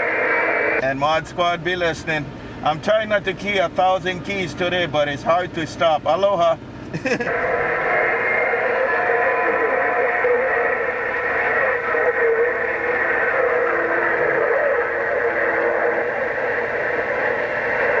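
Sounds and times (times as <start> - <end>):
faint wavering radio tones: 0.0 - 18.0
radio static hiss: 0.0 - 18.0.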